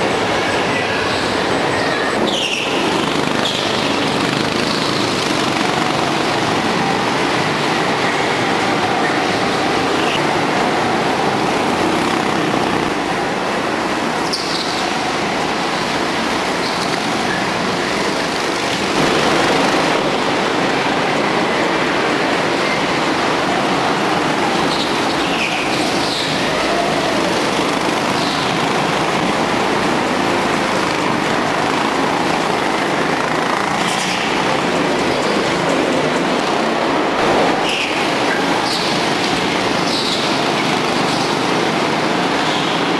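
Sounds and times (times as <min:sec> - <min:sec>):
go-kart engines racing: 0:00.0 - 0:42.9.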